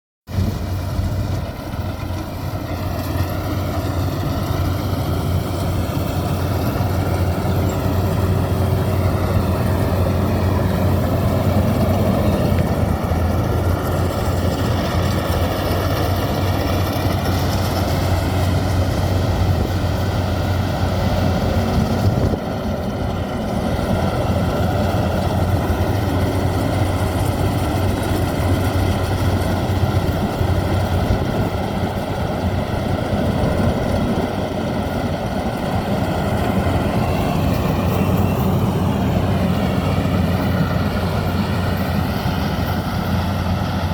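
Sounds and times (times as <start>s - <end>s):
combine harvester engine hum: 0.3s - 43.9s.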